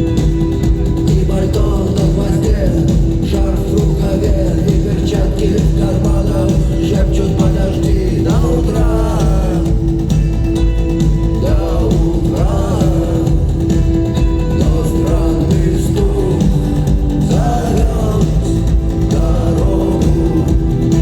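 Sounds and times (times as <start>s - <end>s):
person singing: 0.0s - 10.2s, 11.3s - 21.0s
rock band playing live: 0.0s - 21.0s.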